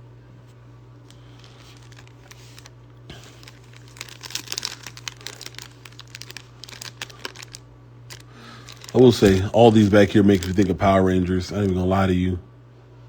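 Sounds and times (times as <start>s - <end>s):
steady low hum: 0.0s - 13.0s
plastic wrapper crinkling and tearing: 1.1s - 12.0s.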